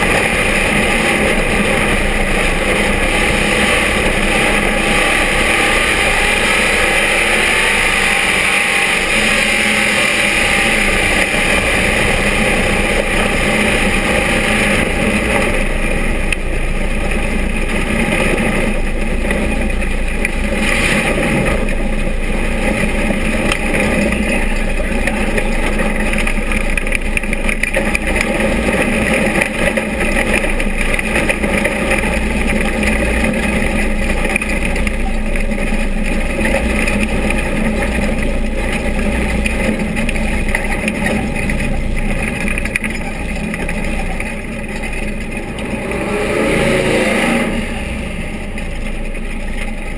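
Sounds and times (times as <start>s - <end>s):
dense rushing noise: 0.0s - 49.9s
race car engine running hard: 0.0s - 49.9s.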